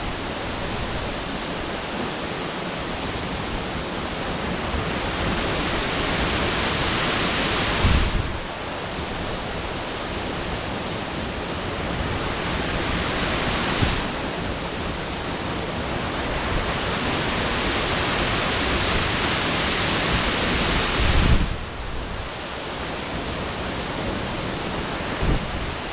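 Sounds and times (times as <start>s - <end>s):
waterfall rushing: 0.1s - 25.9s.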